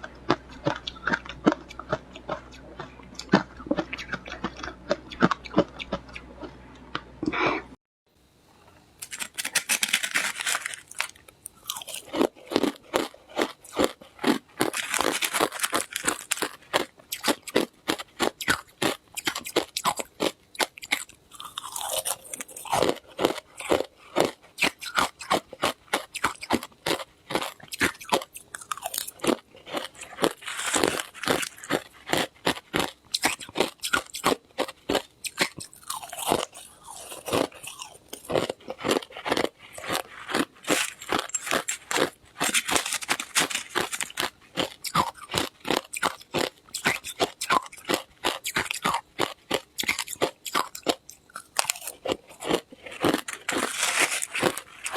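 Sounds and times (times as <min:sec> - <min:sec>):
ice being chewed: 0:00.0 - 0:07.0, 0:09.0 - 0:54.9.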